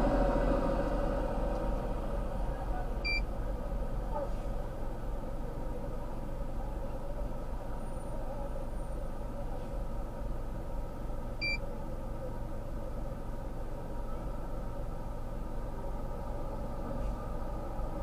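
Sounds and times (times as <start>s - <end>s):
motor vehicle rumble: 0.0s - 18.0s.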